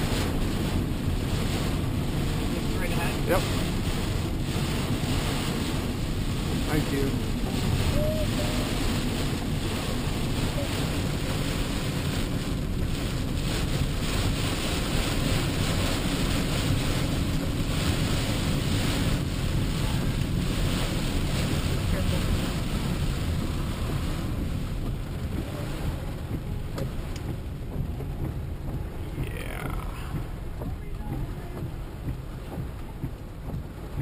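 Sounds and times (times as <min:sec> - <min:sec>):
road noise inside moving car: 0:00.0 - 0:34.0
storm wind rushing: 0:00.0 - 0:34.0.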